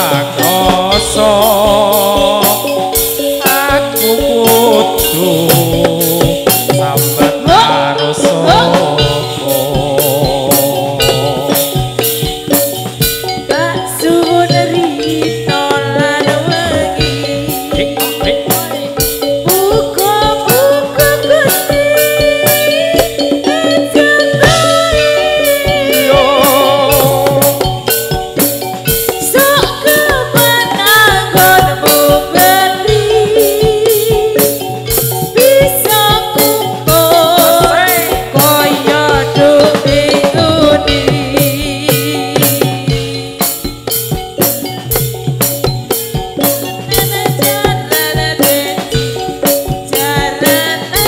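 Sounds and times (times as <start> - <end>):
bright percussion strokes: 0.0 - 51.0
folk dance band music: 0.0 - 51.0
pitched melody with sliding notes: 0.0 - 51.0
steady drum beats: 0.0 - 51.0.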